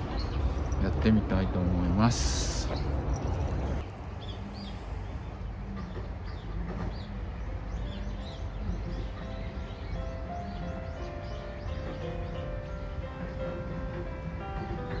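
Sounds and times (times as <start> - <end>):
small birds chirping: 0.0 - 0.9, 2.0 - 15.0.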